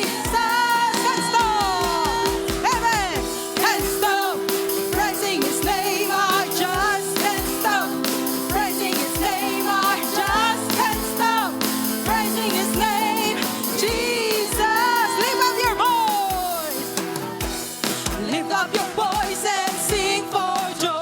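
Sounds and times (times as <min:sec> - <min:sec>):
people singing: 0:00.0 - 0:21.0
steady drum beat: 0:00.0 - 0:21.0.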